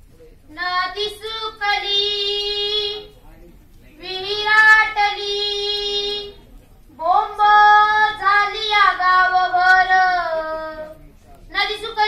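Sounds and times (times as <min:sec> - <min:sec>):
boy singing into microphone: 0:00.5 - 0:03.1, 0:04.0 - 0:06.4, 0:07.0 - 0:12.0.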